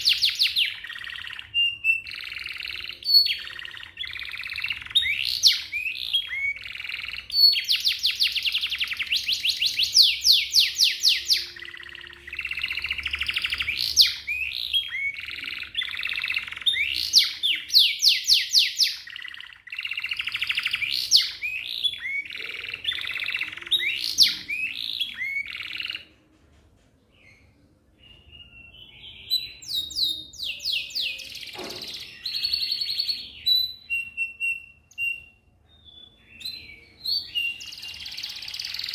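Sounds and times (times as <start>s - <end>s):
canary singing trills: 0.0s - 26.1s, 27.2s - 38.9s.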